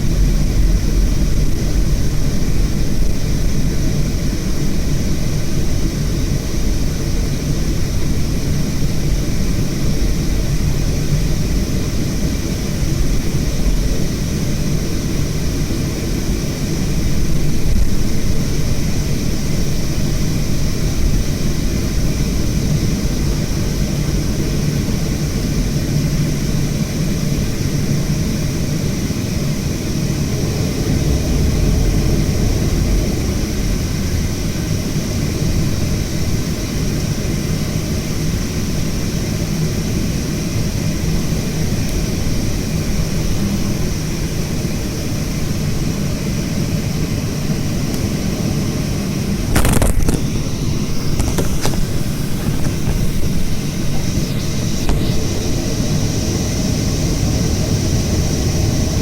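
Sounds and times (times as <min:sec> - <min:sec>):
jet engines roaring and whining: 0:00.0 - 0:59.0.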